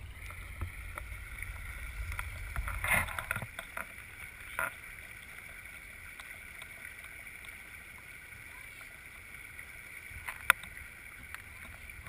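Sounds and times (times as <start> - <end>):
creek flowing: 0.0 - 12.0
muffled underwater rumble: 0.0 - 12.0
water splashing: 0.0 - 12.0.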